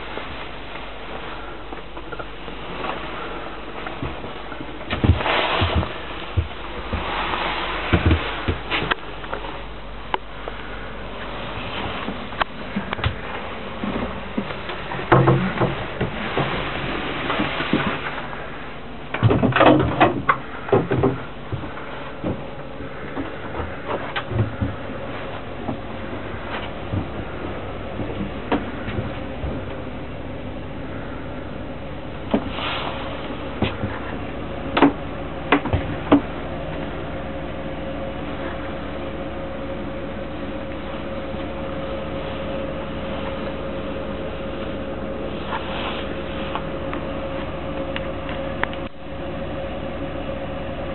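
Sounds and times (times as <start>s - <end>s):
steady hum and hiss: 0.0s - 50.9s.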